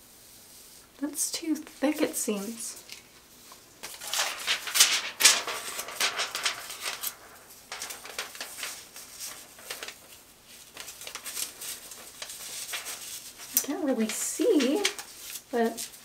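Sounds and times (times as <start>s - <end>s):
foil rustling and crinkling: 1.8s - 16.0s.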